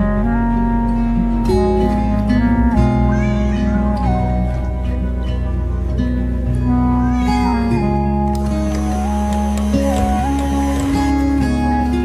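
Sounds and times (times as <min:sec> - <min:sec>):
plucked guitar: 0:00.0 - 0:12.0
sustained chords: 0:00.0 - 0:12.0.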